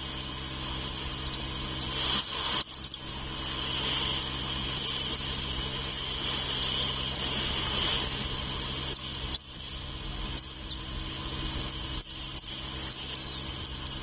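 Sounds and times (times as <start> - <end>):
bird chirping: 0.0 - 14.0
high-pitched insect-like drone: 0.0 - 14.0
low steady hum: 0.0 - 14.0.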